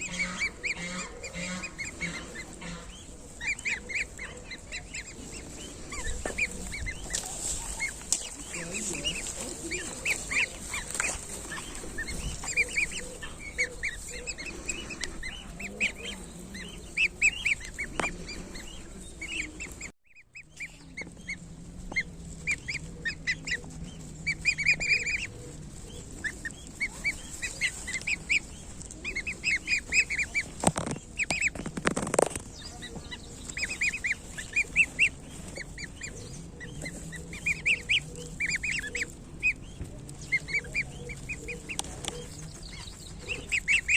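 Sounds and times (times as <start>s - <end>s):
goslings peeping: 0.0s - 43.9s.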